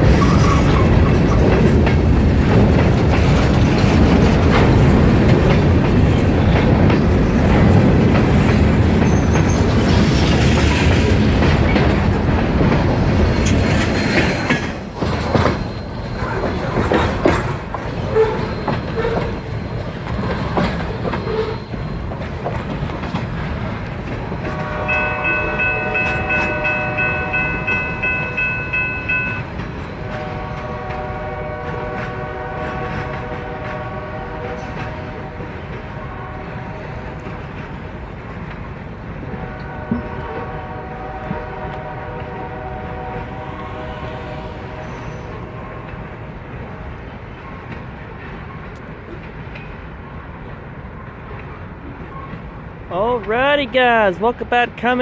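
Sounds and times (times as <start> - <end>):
freight train rumbling: 0.0 - 55.0
train wheel clatter: 0.0 - 55.0.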